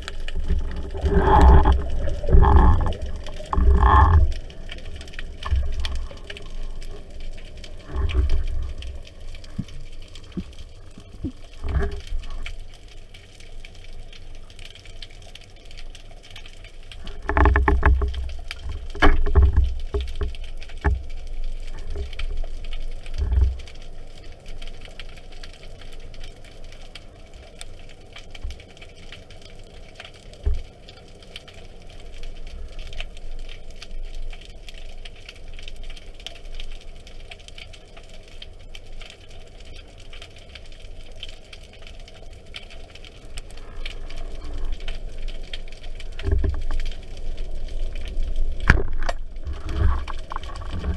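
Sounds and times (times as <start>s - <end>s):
faint underwater crackle: 0.0s - 50.9s.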